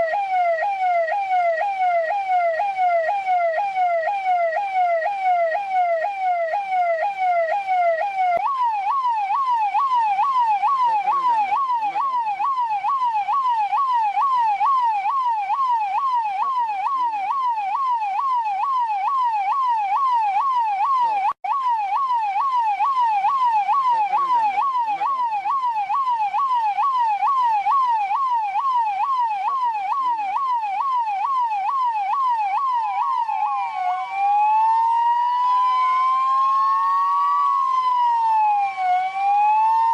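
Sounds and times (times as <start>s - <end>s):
electronic police siren yelp: 0.0s - 39.9s.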